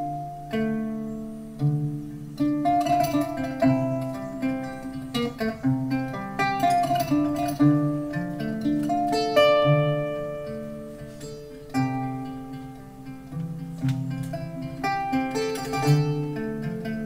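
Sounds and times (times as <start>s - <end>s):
plucked harp-lute melody: 0.0s - 17.0s.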